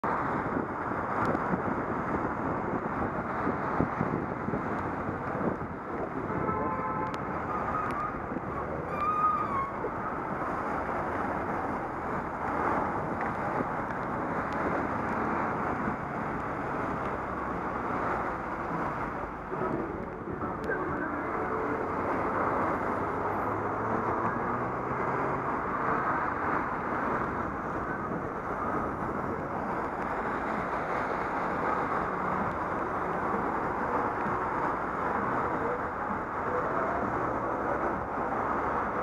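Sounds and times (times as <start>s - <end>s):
passing road traffic: 0.0s - 39.0s
tyres on wet road: 0.0s - 39.0s
wind on microphone: 0.0s - 39.0s.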